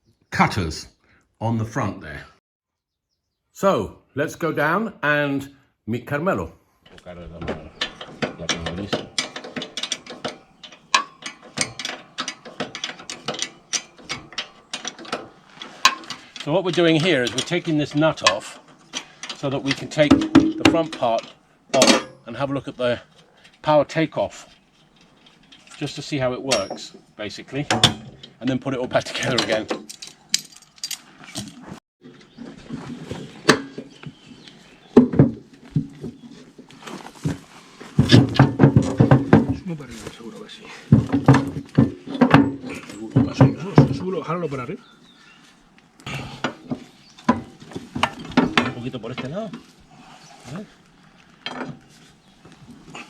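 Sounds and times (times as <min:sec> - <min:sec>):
hand tools clinking on metal: 0:06.9 - 0:53.0.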